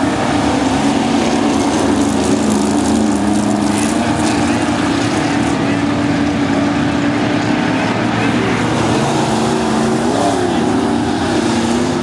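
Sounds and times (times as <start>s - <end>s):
race car engines droning: 0.0s - 12.0s.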